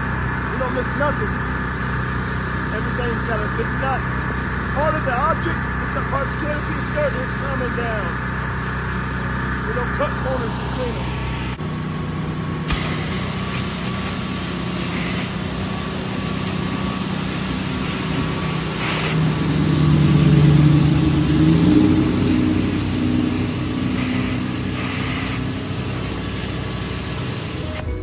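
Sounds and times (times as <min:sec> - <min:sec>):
pressure washer engine running: 0:00.0 - 0:28.0.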